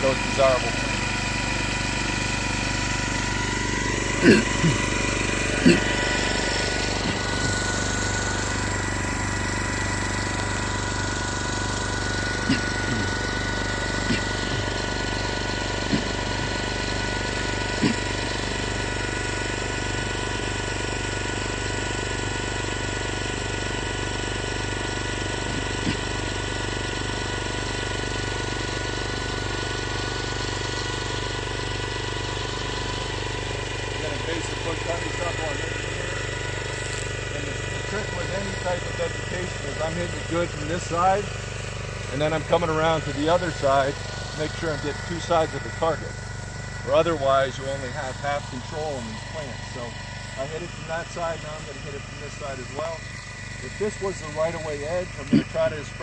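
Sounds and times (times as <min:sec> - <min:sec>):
spray rig engine running: 0:00.0 - 0:56.0.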